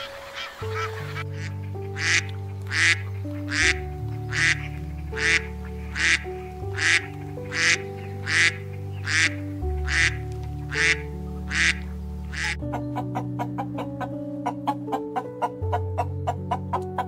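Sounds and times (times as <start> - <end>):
duck quacking: 0.0 - 13.9
soft background music: 0.0 - 17.0.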